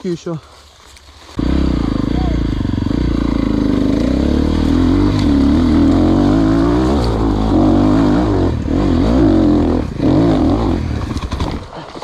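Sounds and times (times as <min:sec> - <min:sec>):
motorcycle engine revving: 0:01.4 - 0:11.6.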